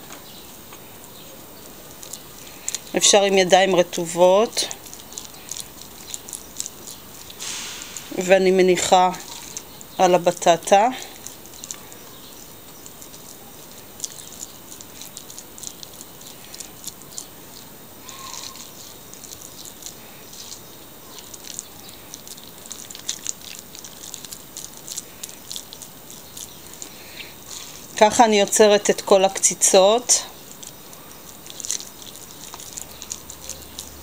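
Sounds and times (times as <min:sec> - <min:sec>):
hands squishing minced meat: 0:00.0 - 0:34.0.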